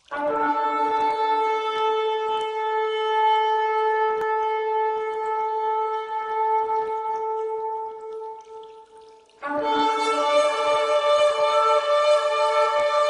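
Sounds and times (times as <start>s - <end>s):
horn blowing long note: 0.1s - 8.1s, 9.4s - 13.0s.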